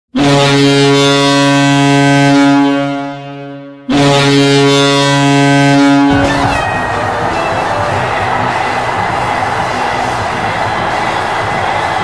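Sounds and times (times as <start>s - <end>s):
deep goal horn blast: 0.1s - 10.0s.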